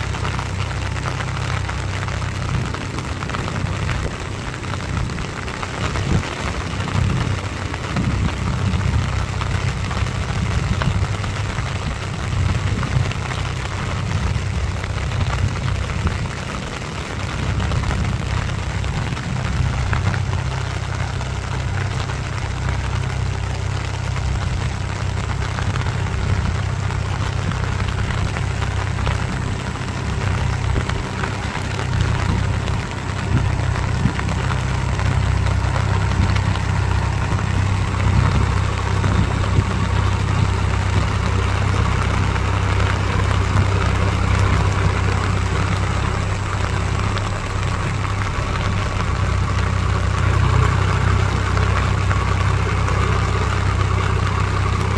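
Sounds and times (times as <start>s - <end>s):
heavy rain hissing: 0.0s - 54.9s
tractor diesel engine running: 0.0s - 54.9s.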